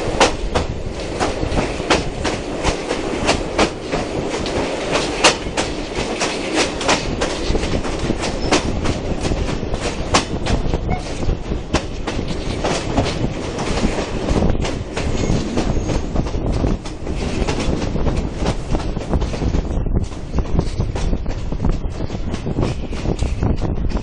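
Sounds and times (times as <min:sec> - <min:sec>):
train rolling rumble: 0:00.0 - 0:24.0
train wheels clattering over rail joints: 0:00.0 - 0:24.0.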